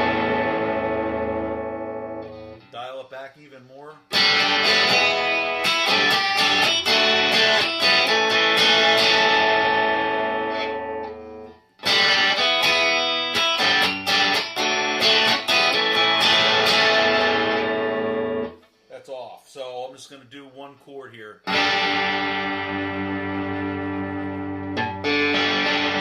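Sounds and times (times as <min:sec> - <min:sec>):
distorted electric guitar chords: 0:00.0 - 0:02.7, 0:04.1 - 0:18.6, 0:21.4 - 0:26.0.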